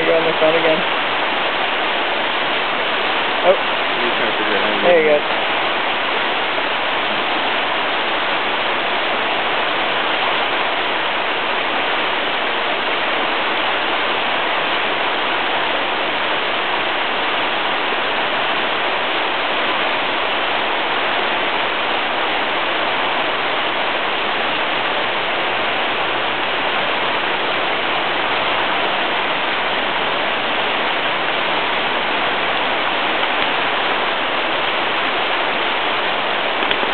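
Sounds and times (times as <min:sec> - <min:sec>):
running water rushing: 0:00.0 - 0:36.9.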